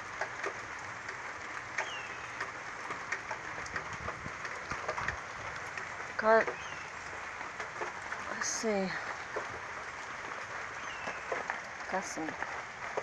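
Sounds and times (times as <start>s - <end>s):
raindrops hitting close by: 0.0s - 13.0s
steady rain: 0.0s - 13.0s.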